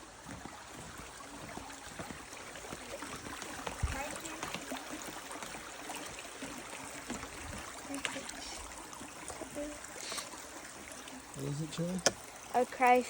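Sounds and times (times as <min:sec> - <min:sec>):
stream flowing water: 0:00.0 - 0:13.0.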